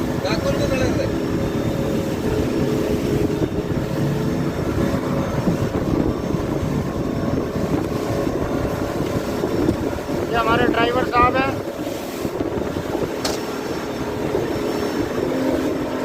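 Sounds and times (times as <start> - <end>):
speedboat engine running: 0.0 - 16.0
wind noise on microphone: 0.0 - 16.0.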